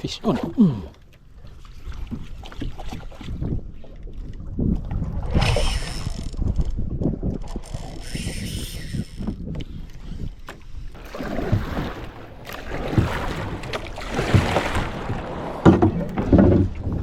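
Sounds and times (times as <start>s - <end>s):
water slapping against boat hull: 0.2s - 7.7s, 10.4s - 17.0s
wind on microphone: 1.4s - 17.0s.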